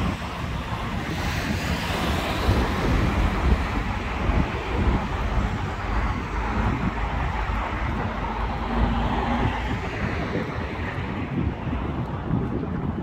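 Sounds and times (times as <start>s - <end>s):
road traffic going by: 0.0s - 13.0s
wind rumble on microphone: 0.0s - 13.0s.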